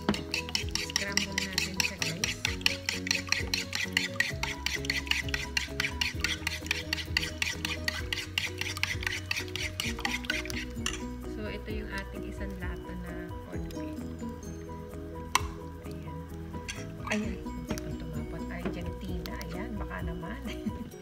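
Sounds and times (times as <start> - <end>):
spoon beating eggs in bowl: 0.0 - 14.6, 15.2 - 20.1.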